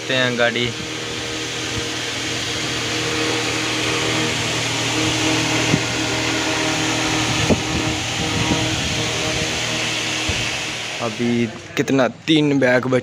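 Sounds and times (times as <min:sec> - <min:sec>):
mechanical hum in truck cab: 0:00.0 - 0:13.0.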